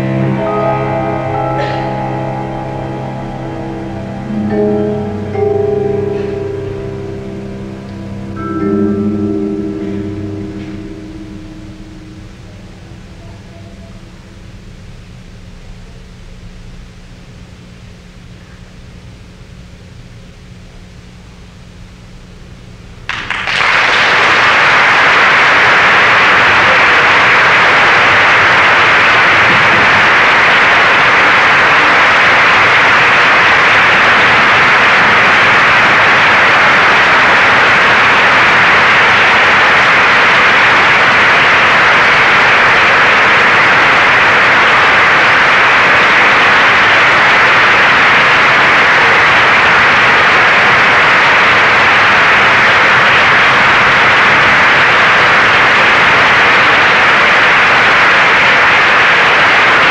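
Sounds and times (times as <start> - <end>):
audience applauding: 0.0 - 14.2, 23.1 - 59.9.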